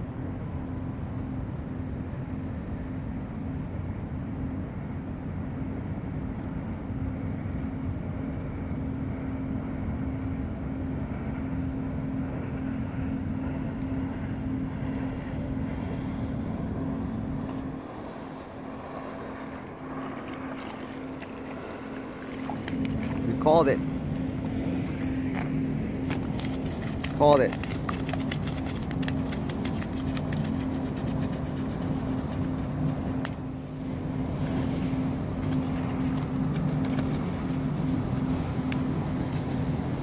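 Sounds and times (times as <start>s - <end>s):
distant engine drone: 0.0s - 40.0s
low rumble: 0.0s - 40.0s.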